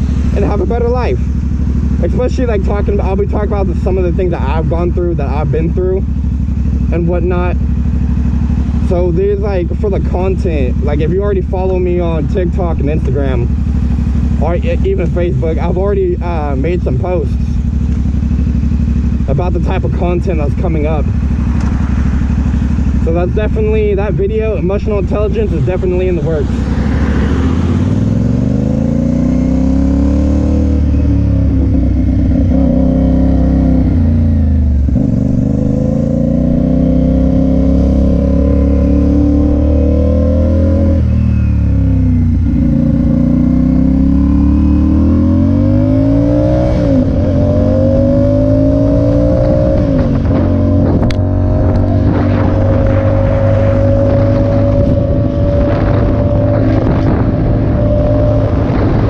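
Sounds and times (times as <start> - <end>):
motorcycle engine shifting gears: 0.0 - 59.0.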